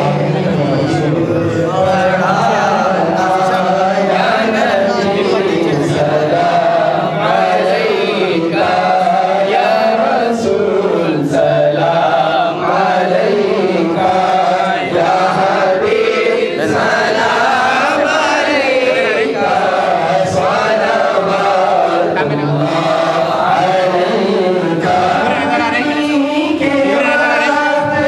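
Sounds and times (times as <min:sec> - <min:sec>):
voices chanting together: 0:00.0 - 0:28.0.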